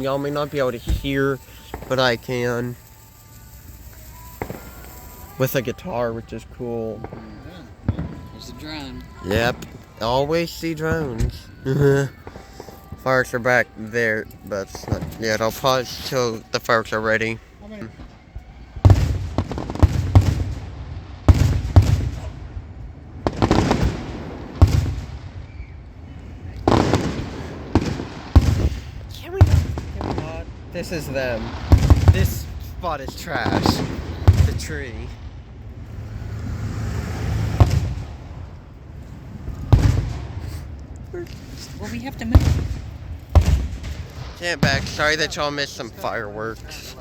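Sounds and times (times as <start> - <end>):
low rumble: 0.0 - 45.9
fireworks bursting with sharp bangs: 0.0 - 47.0.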